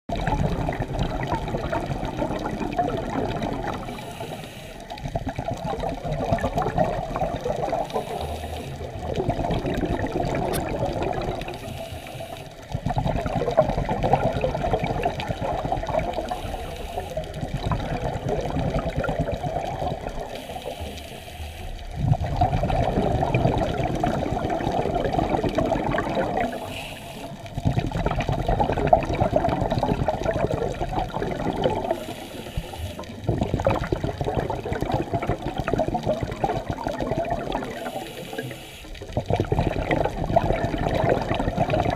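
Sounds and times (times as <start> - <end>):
underwater exhaled bubbles rushing: 0.1 - 41.9.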